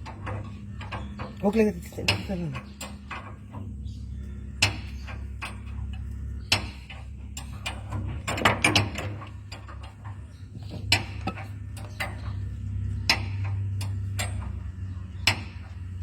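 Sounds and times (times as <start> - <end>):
metallic clicks and knocks: 0.0 - 3.9, 4.6 - 15.9.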